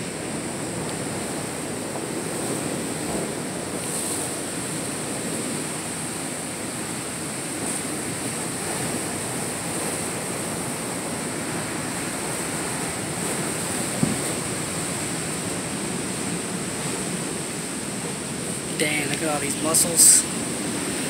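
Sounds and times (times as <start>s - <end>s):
surf on rocky shore: 0.0s - 21.0s.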